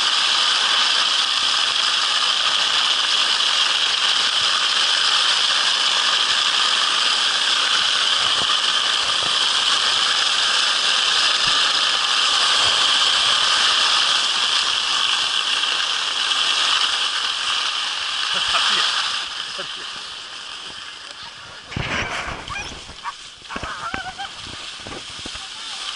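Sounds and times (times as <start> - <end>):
skis sliding over snow: 0.0 - 25.9.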